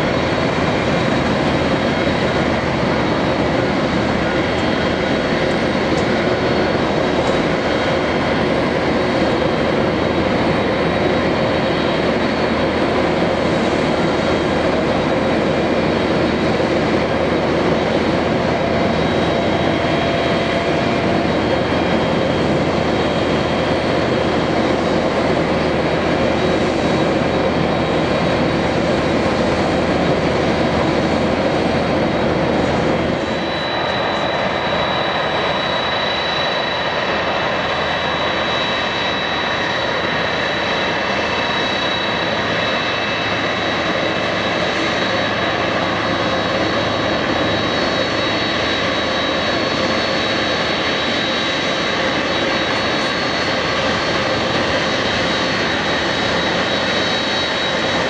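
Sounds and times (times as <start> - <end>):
high-pitched engine whine: 0.0 - 58.0
jet engines rushing: 0.0 - 58.0.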